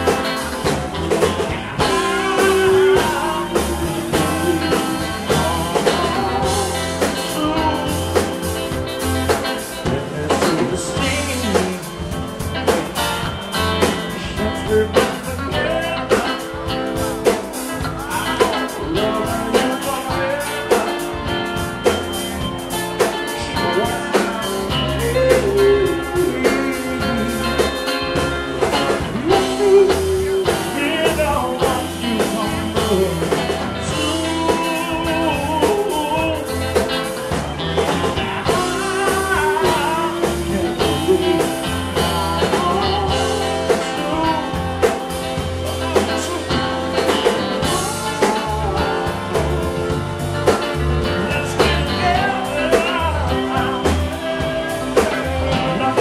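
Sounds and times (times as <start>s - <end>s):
drums: 0.0s - 56.0s
electric bass: 0.0s - 56.0s
electric guitar: 0.0s - 56.0s
person singing lead vocal: 0.0s - 56.0s.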